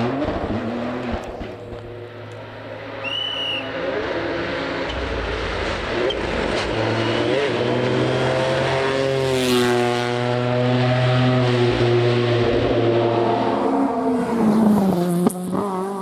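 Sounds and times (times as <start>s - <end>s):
rally car engine approaching: 0.0s - 16.0s.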